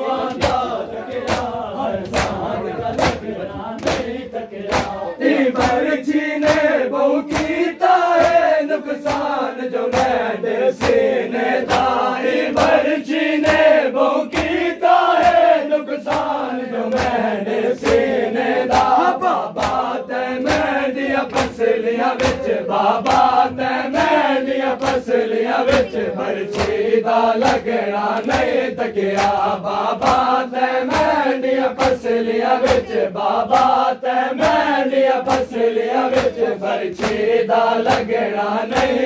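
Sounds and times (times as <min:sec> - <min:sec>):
crowd of men chanting: 0:00.0 - 0:39.0
hands slapping chests: 0:00.2 - 0:39.0.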